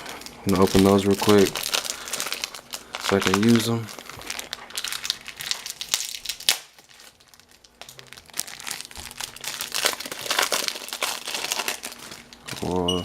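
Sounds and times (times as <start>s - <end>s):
plastic packaging crinkling: 0.0s - 12.9s.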